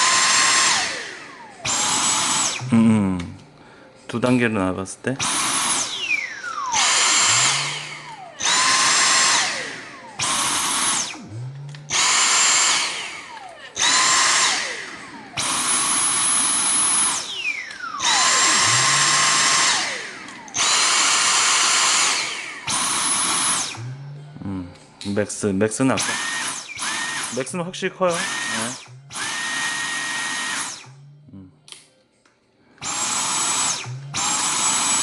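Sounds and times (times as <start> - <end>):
vacuum motor whine: 0.0 - 31.7, 32.7 - 35.0.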